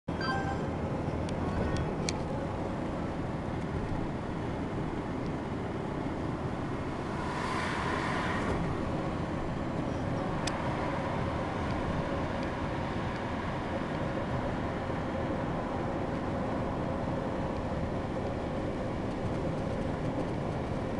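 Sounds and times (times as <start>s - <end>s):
car road and engine noise: 0.0s - 20.9s.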